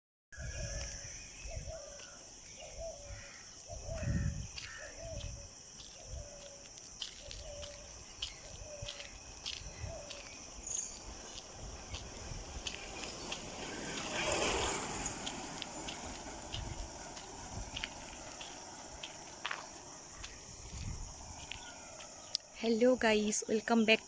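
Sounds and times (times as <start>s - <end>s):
high insect chirring: 0.4s - 24.0s.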